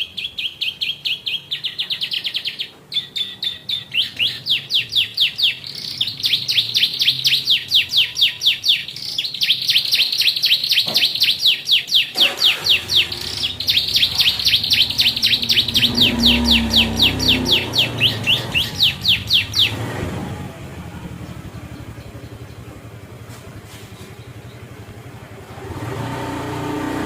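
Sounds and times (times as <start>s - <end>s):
canary singing rapid chirps: 0.0s - 27.0s.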